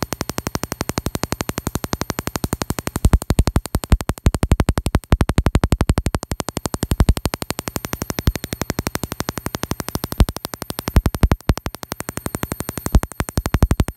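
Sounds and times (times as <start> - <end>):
small spark: 0.0 - 13.9
tesla coil ticking buzz: 0.0 - 13.9.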